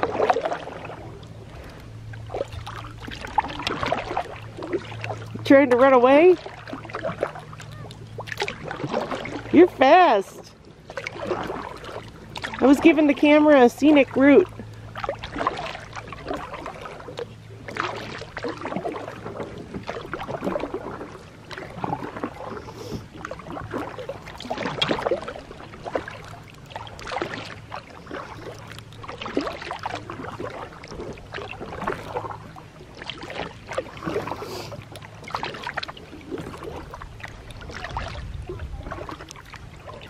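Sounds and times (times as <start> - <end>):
paddle strokes in water: 0.0 - 40.0
water splashes and drips: 0.0 - 40.0.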